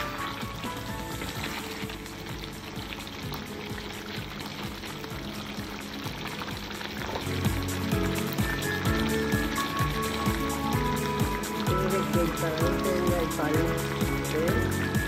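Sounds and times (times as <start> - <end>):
background music: 0.0 - 15.0
curry sizzling in a pan: 0.0 - 15.0.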